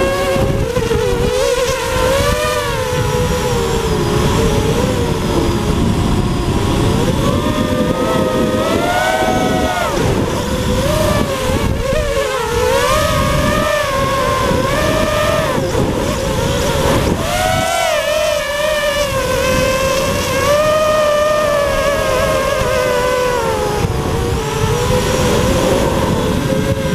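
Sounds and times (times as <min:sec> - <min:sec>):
quadcopter motors whining: 0:00.0 - 0:26.9
wind rushing over microphone: 0:00.0 - 0:26.9.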